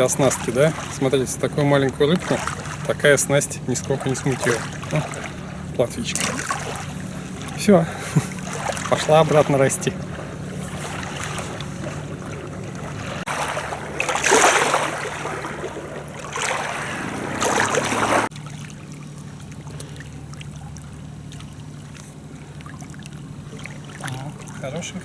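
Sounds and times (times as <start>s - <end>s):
motorboat engine drone: 0.0s - 25.0s
water wash: 0.0s - 25.0s.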